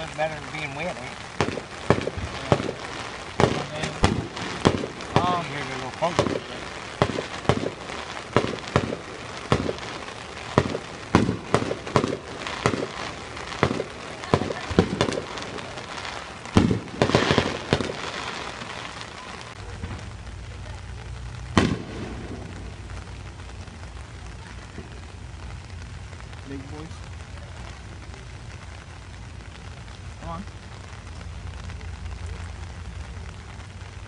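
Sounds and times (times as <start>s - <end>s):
fireworks bangs: 0.0s - 34.0s
fireworks crackling burst: 0.0s - 34.0s
steady rain: 0.0s - 34.0s.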